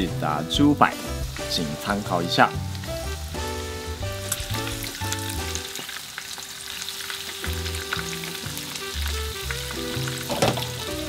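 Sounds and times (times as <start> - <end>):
shrimp deep-frying in oil: 0.0 - 11.0
soft background music: 0.0 - 11.0.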